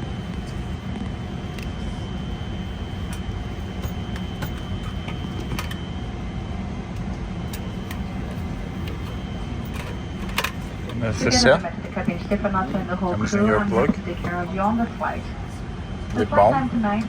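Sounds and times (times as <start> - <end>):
cabin air-conditioning hum: 0.0 - 17.0
faint steady whine: 0.0 - 17.0.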